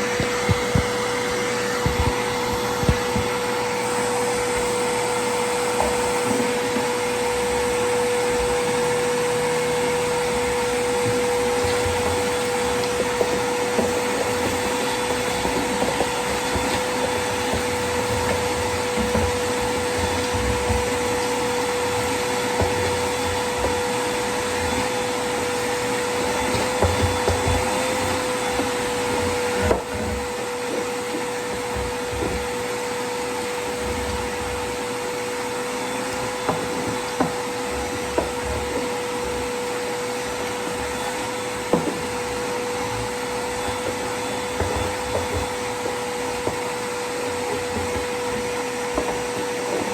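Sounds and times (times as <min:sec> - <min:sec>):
small knocks and bumps: 0:00.0 - 0:49.9
vacuum cleaner running: 0:00.0 - 0:49.9.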